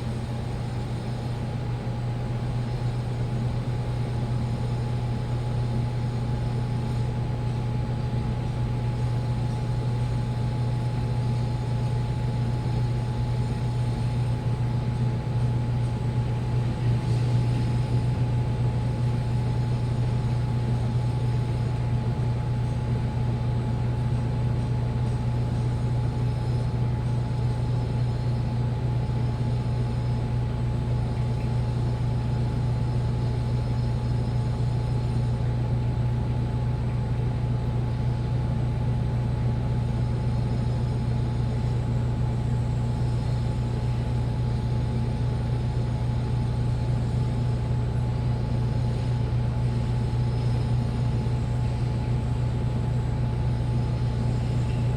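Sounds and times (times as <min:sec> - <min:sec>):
washing machine running: 0:00.0 - 0:54.9.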